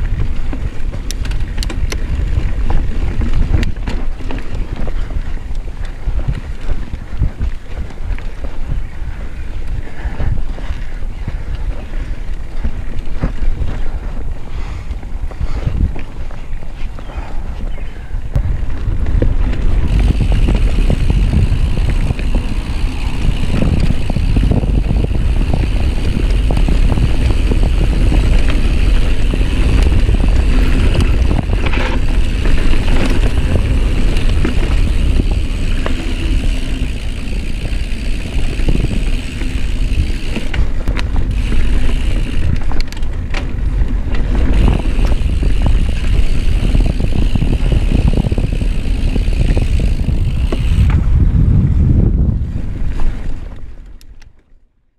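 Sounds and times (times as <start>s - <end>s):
wind buffeting microphone: 0.0s - 54.2s
bike tyres and frame rattling: 0.0s - 54.7s.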